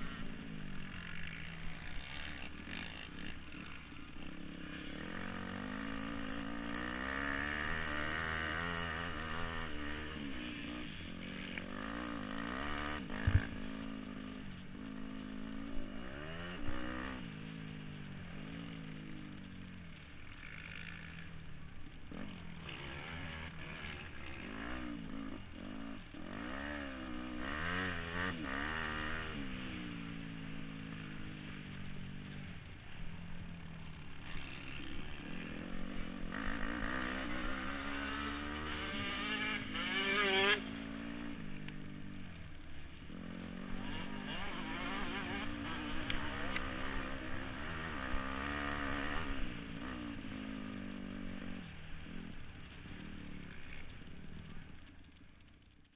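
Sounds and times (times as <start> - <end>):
motocross bike engines revving: 0.0 - 55.9.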